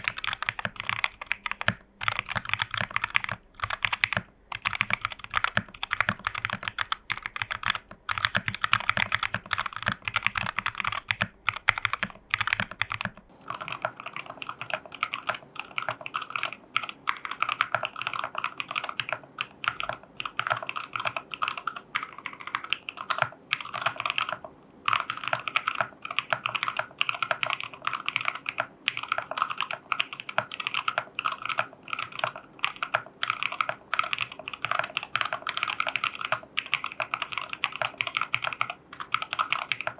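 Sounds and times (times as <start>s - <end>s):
mechanical keyboard typing: 0.0s - 15.2s, 15.8s - 39.9s.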